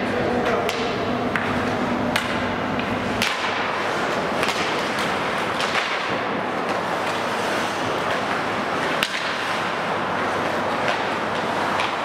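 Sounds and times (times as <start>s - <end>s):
hockey sticks clacking on puck: 0.4s - 3.6s, 4.3s - 12.0s.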